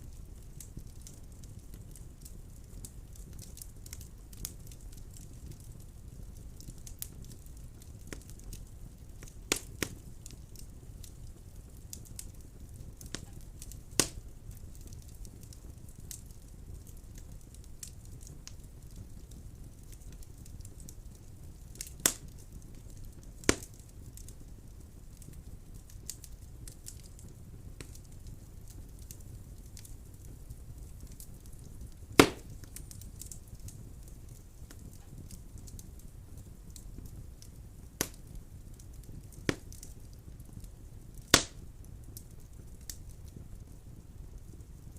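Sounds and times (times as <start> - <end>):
sharp pops of burning wood: 0.0 - 43.8
fire crackling: 0.0 - 44.9
fire flames rumbling: 0.0 - 44.9.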